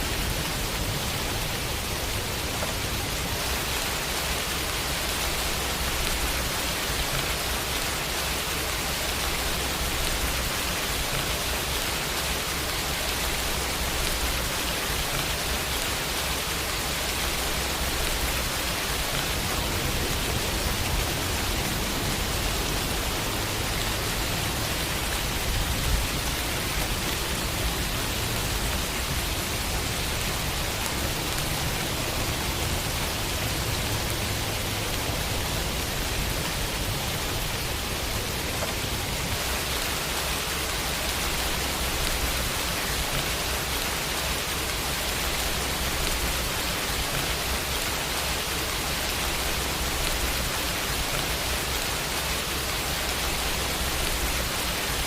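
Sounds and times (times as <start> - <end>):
rain falling on a window: 0.0 - 55.0.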